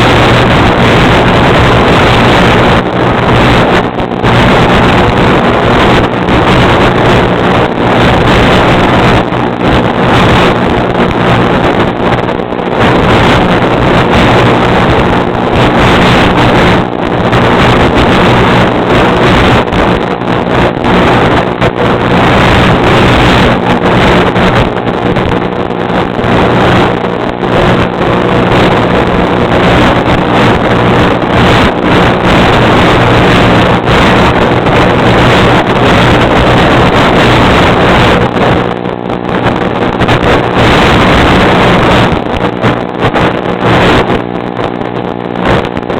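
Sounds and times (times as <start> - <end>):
mechanical drone: 0.0 - 45.9
wind buffeting microphone: 0.0 - 45.9.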